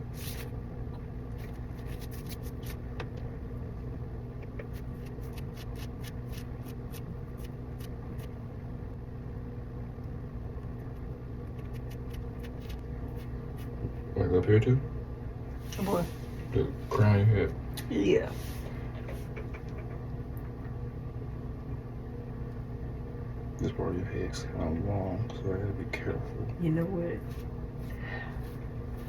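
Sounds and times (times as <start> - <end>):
low appliance hum: 0.0 - 29.0.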